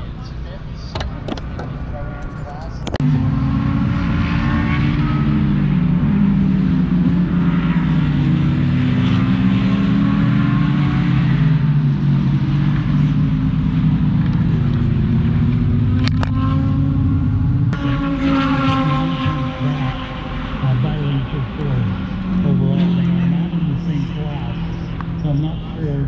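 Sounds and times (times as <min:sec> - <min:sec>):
race car engines at speed: 0:00.0 - 0:26.0.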